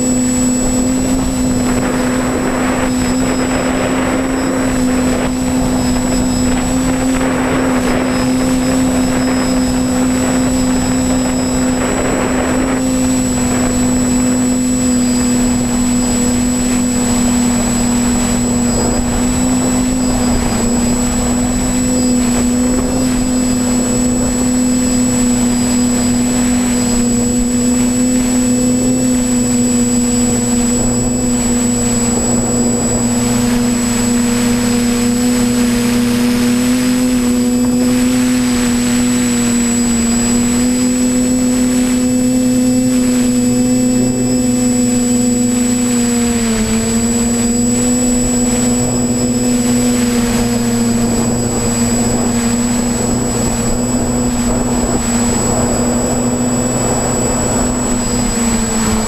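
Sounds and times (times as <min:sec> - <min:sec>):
drone motors humming: 0:00.0 - 0:59.0.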